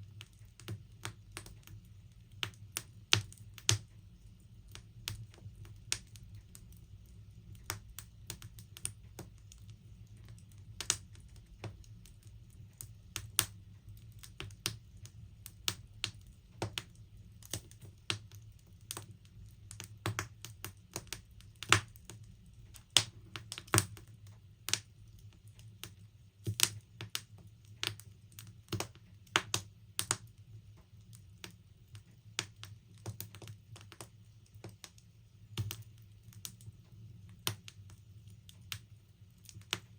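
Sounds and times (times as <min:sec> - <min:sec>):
wood logs crackling in burner: 0:00.0 - 0:39.9.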